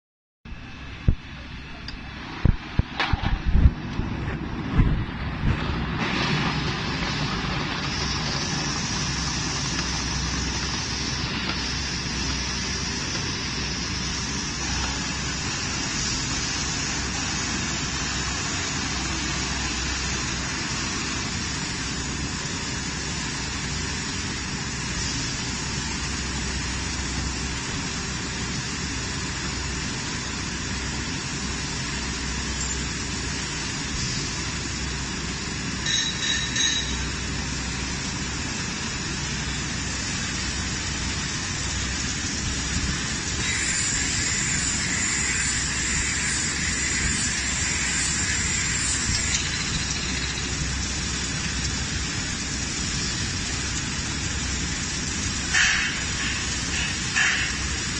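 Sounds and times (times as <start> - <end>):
running water hissing: 5.4 - 57.9.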